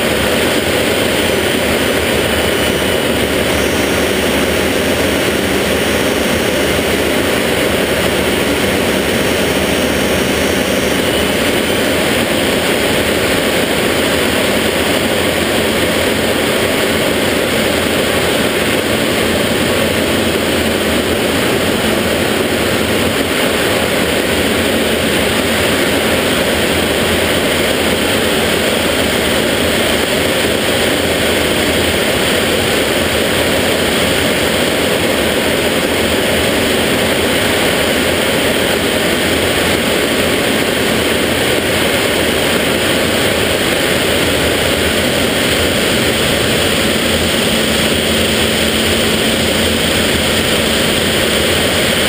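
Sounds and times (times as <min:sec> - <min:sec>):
jet engine and air rush in cockpit: 0:00.0 - 0:52.0.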